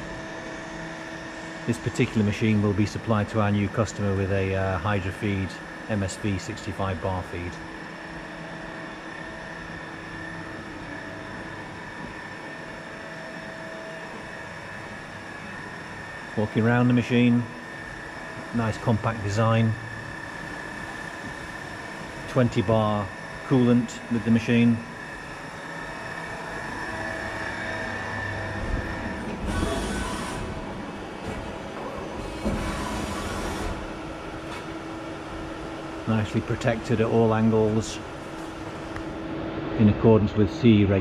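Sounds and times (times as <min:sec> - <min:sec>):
machinery humming with whine: 0:00.0 - 0:41.0.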